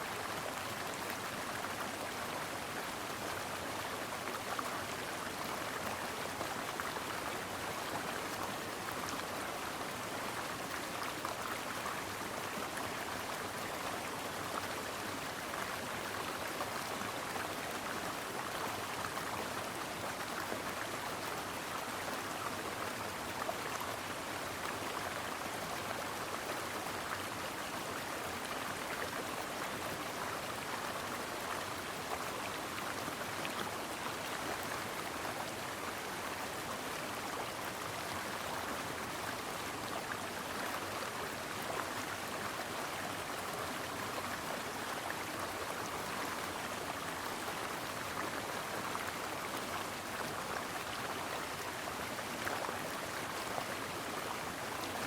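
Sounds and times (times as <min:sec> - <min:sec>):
brook water running over rocks: 0:00.0 - 0:55.0.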